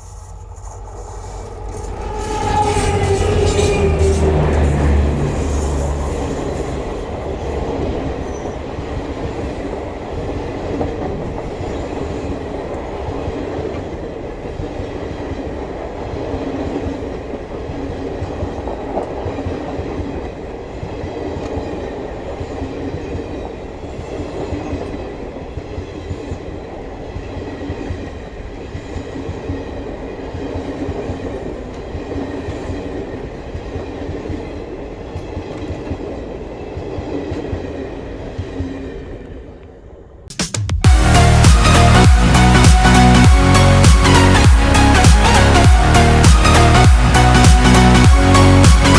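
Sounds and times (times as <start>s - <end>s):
train wheels clattering over rails: 0.0s - 39.8s.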